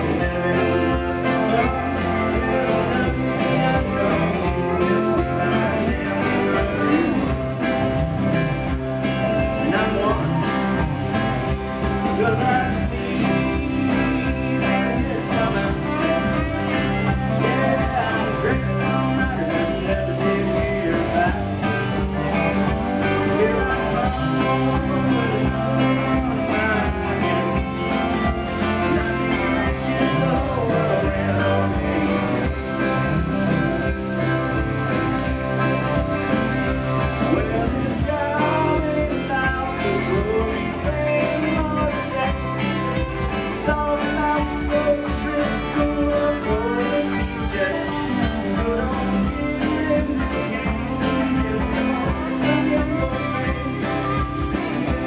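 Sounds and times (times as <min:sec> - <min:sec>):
country band playing: 0:00.0 - 0:55.0.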